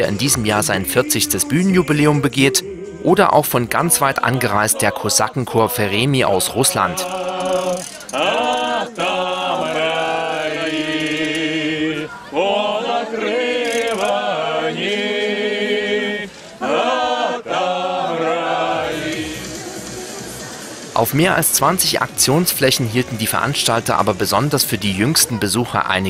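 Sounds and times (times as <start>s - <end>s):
mixed choir singing a cappella: 0.0s - 25.5s.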